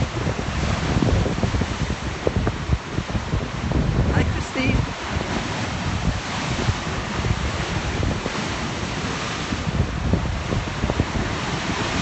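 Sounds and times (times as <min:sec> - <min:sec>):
sea waves breaking on shore: 0:00.0 - 0:12.0
wind buffeting microphone: 0:00.0 - 0:12.0.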